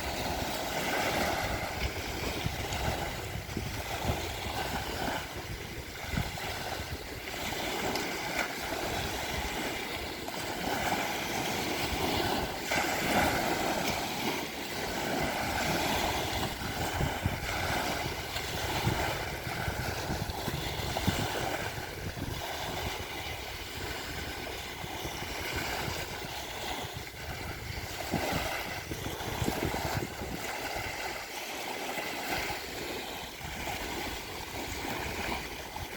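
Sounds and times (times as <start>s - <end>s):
small waves breaking on shore: 0.0s - 35.9s
wind on microphone: 0.0s - 35.9s.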